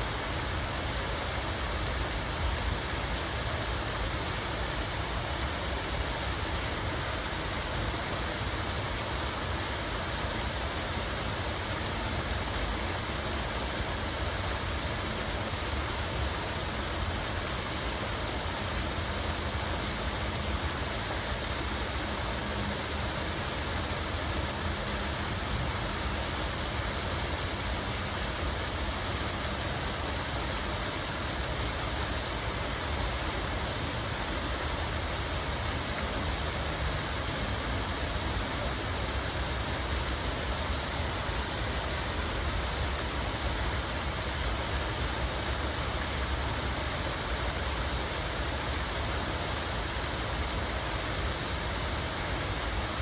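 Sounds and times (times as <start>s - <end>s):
water running steadily: 0.0s - 53.0s.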